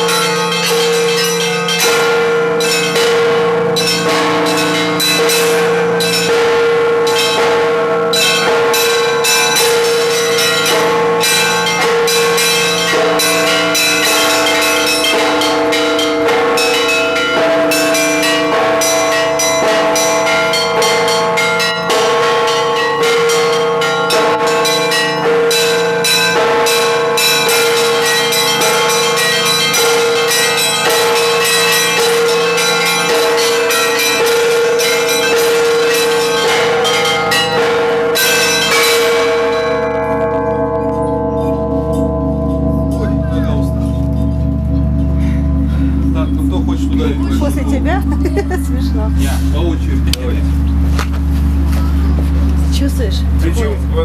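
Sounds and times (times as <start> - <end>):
church bells rung in rhythmic patterns: 0.0 - 54.0
hum of large bells: 0.0 - 54.0.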